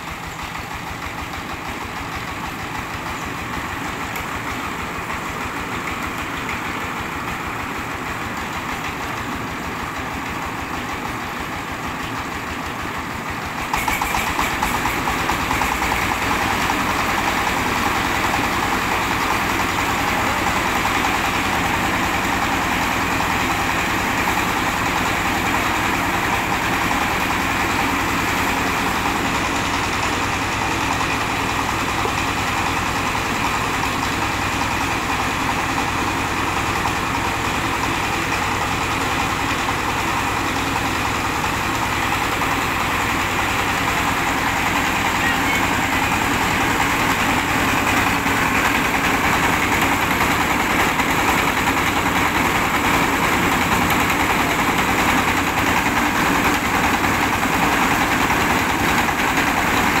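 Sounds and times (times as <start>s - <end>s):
diesel engine driving rice mill: 0.0s - 60.0s.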